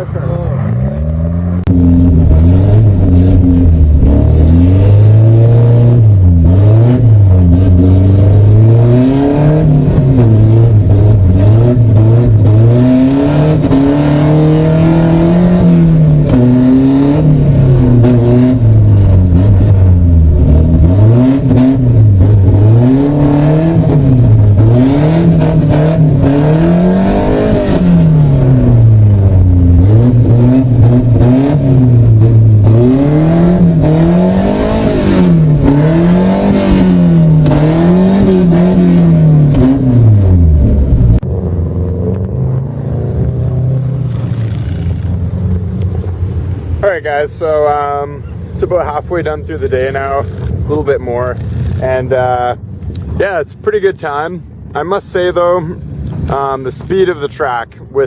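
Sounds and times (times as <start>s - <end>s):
car engine revving: 0.0s - 57.6s.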